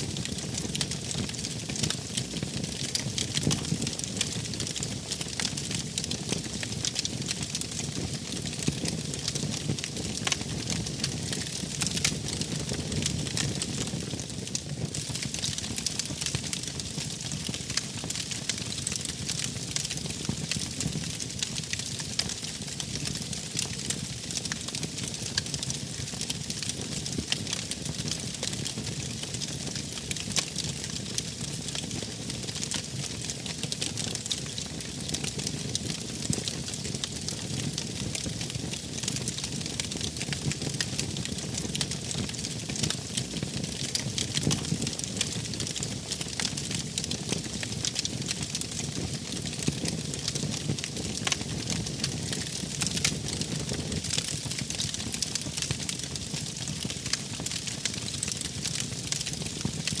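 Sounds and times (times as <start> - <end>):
wood fire crackling: 0.1 - 60.0.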